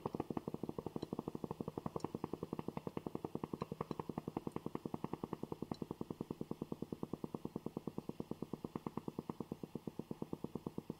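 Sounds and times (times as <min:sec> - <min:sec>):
coffee maker pulsing: 0:00.0 - 0:10.9.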